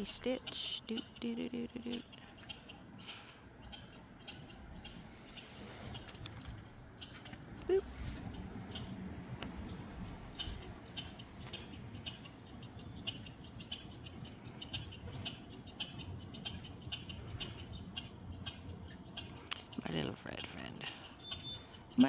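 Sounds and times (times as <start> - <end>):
squirrel chirping: 0.0 - 22.0.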